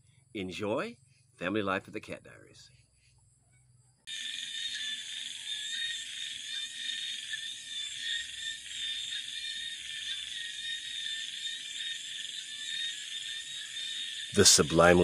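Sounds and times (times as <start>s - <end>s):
night insects trilling and buzzing: 2.6s - 15.0s.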